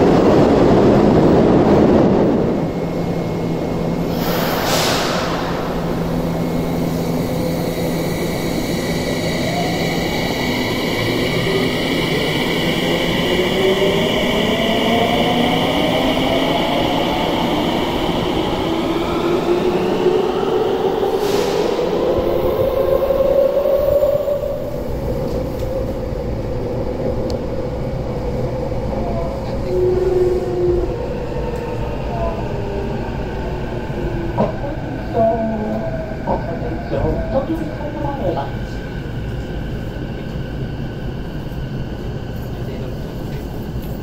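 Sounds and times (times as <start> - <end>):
train running rumble inside: 0.0 - 44.0.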